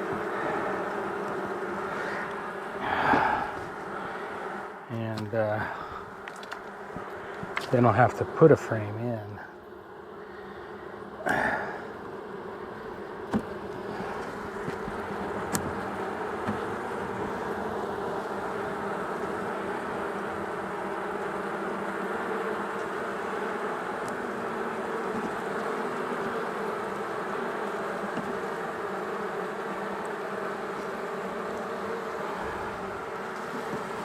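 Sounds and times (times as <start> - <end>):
honey bees buzzing: 0.0 - 34.0.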